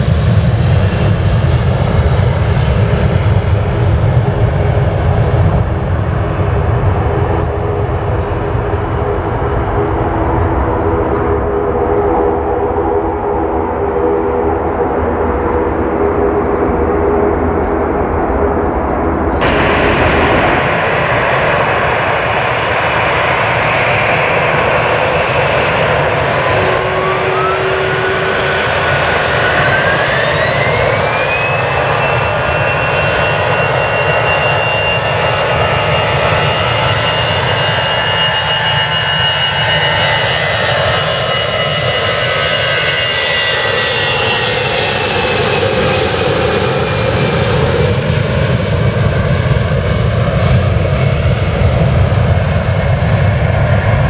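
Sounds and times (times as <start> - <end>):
jet engine rumble: 0.0 - 32.4, 41.6 - 54.0
jet engine whine climbing: 0.0 - 54.0.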